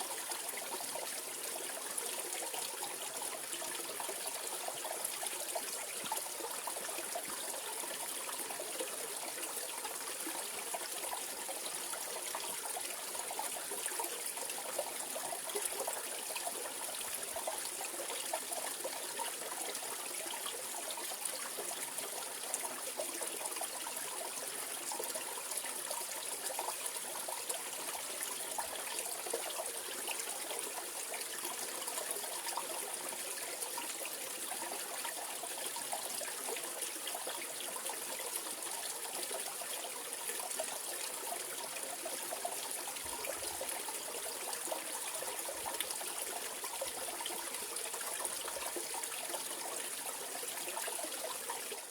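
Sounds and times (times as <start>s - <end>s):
stream flowing over rocks: 0.2s - 51.9s.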